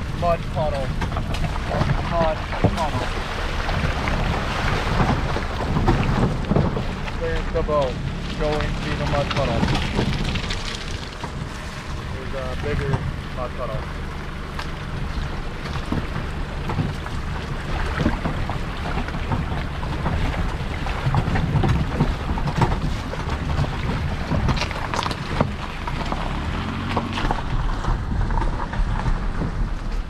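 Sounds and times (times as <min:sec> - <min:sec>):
water splashing: 0:00.0 - 0:29.4
stones crunching under tyre: 0:00.0 - 0:30.0
wind rumble on microphone: 0:00.0 - 0:30.0.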